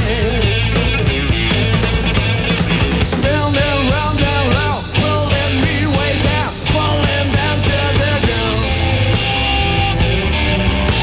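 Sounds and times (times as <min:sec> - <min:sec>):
guitar lead line bending notes: 0:00.0 - 0:11.0
rock band playing: 0:00.0 - 0:11.0.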